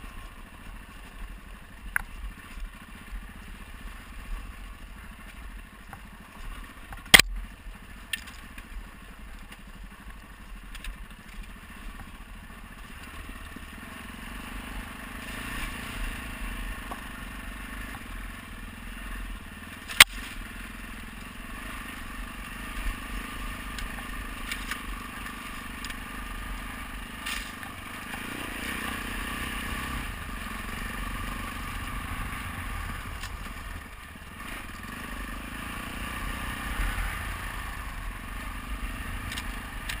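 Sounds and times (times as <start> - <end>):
motorcycle rattling over bumps: 0.0 - 40.0
motorcycle running at low speed: 0.0 - 40.0.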